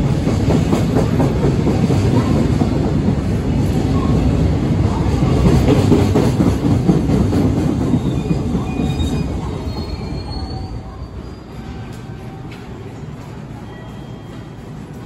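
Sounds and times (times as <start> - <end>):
train wheels rumbling over rails: 0.0 - 15.0.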